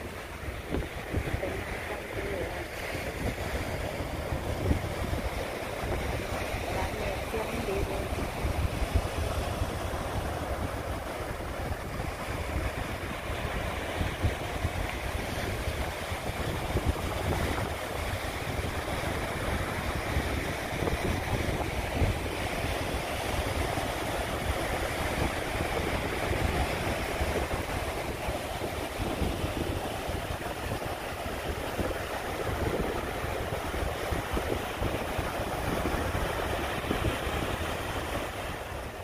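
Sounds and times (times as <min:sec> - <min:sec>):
ocean surf: 0:00.0 - 0:39.0
wind buffeting microphone: 0:00.0 - 0:39.0.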